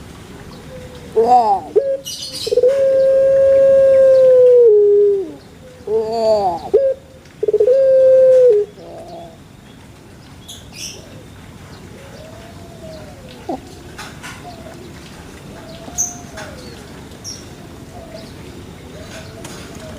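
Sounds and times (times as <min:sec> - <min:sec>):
dove cooing: 0:00.6 - 0:09.4, 0:10.8 - 0:17.1, 0:17.8 - 0:19.9.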